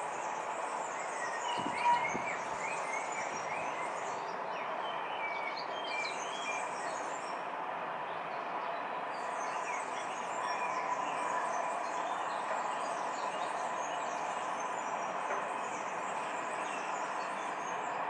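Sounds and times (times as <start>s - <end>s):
distant freight train rolling: 0.0s - 18.0s.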